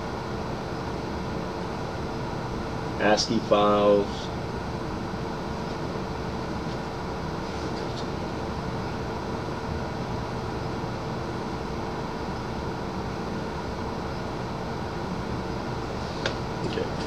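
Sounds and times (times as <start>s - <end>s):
ventilation fan hum: 0.0s - 17.0s.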